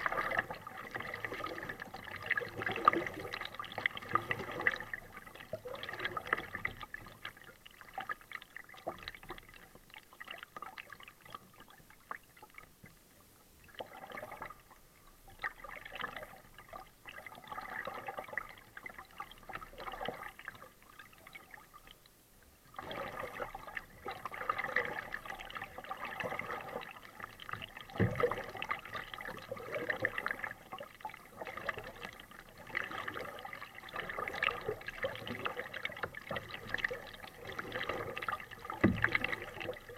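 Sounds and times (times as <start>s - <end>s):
paddle splashing water: 0.0s - 13.0s, 13.6s - 22.0s, 22.6s - 39.9s.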